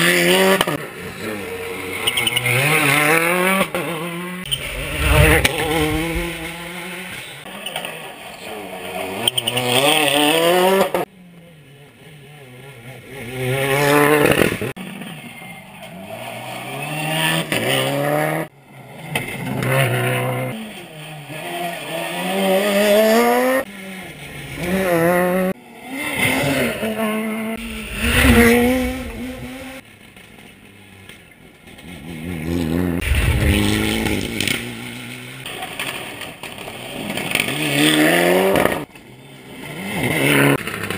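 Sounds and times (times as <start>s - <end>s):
rally car engine revving: 0.0s - 29.8s, 31.7s - 40.9s.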